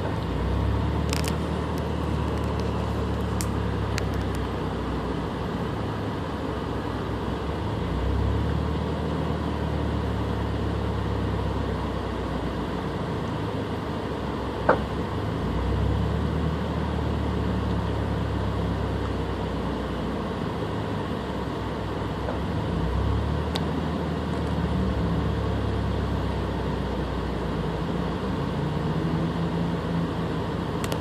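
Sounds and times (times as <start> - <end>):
car engine idling unevenly: 0.0 - 31.0.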